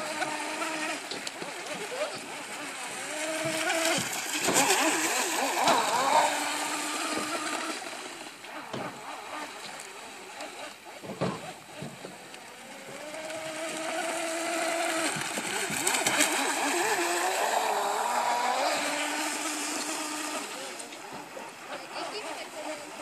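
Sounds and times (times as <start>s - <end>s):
rc boat motor whining: 0.0s - 23.0s.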